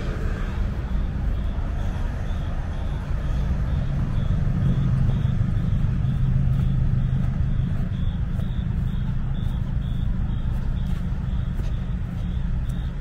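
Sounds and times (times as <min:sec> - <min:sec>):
traffic noise: 0:00.0 - 0:13.0
vehicle engine rumble: 0:00.0 - 0:13.0.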